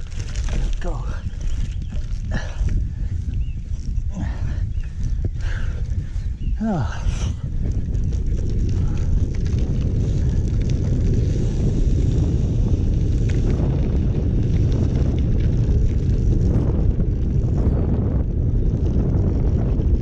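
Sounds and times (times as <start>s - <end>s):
bike tyres rolling on gravel: 0.0s - 20.0s
wind buffeting microphone: 0.0s - 20.0s.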